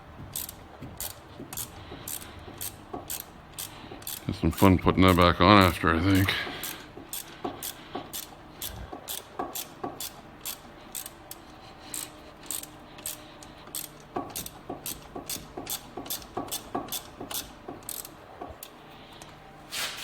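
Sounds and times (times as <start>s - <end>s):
ratchet wrench clicking: 0.2s - 19.3s.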